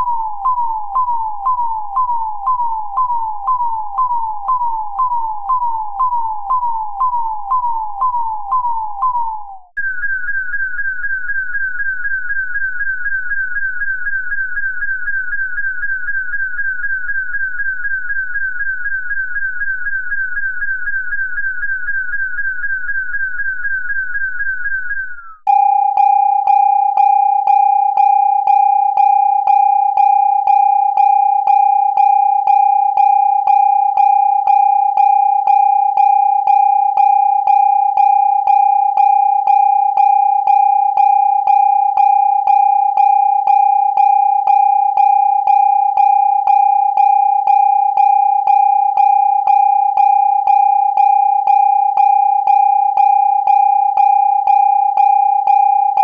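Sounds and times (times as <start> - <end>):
pulsing electronic siren: 0.0 - 56.0.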